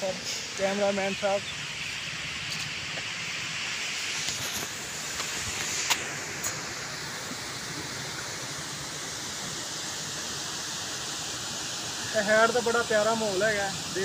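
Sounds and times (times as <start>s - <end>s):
rushing outdoor ambience: 0.0s - 14.0s.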